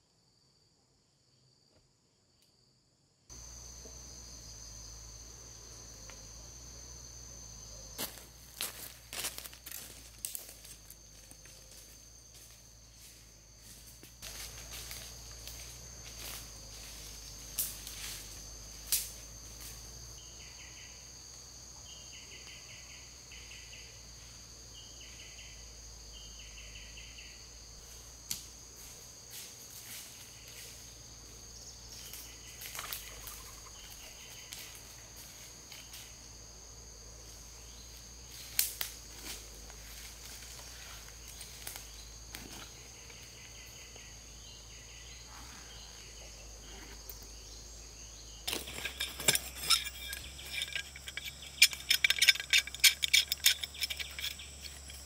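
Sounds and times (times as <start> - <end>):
insects high-pitched drone: 3.3 - 55.0.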